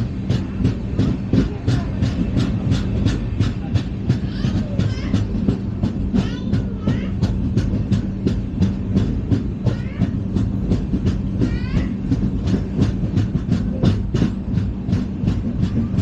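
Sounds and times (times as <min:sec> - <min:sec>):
steady low hum: 0:00.0 - 0:16.0
train wheels clattering on track: 0:00.0 - 0:16.0.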